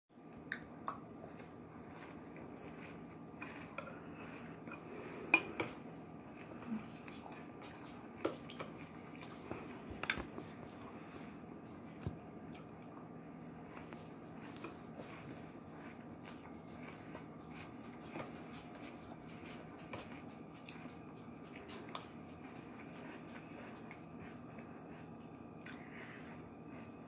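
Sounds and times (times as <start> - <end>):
steady low hum: 0.1 - 27.0.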